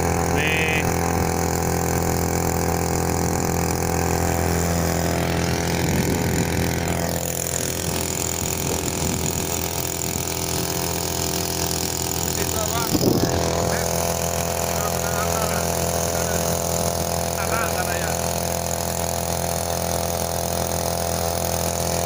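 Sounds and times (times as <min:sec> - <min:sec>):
two-stroke outboard motor running: 0:00.0 - 0:22.0.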